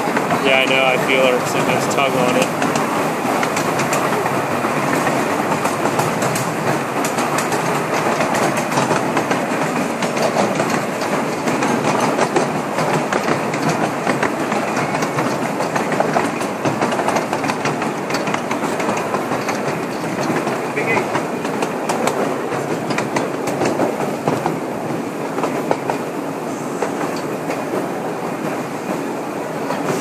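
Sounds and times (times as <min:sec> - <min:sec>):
rumble of train cars: 0:00.0 - 0:30.0
small train wheels clicking: 0:00.0 - 0:30.0.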